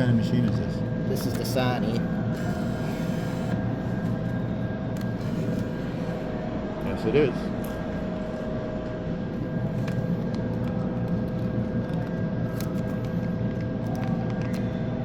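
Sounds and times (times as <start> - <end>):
mechanical hum with tones: 0.0 - 15.0.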